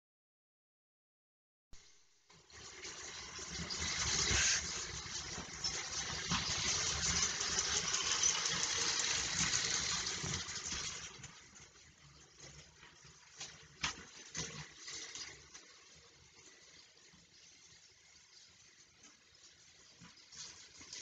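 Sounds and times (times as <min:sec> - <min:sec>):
toy train whirring rattle: 0:02.4 - 0:13.0, 0:14.0 - 0:21.0.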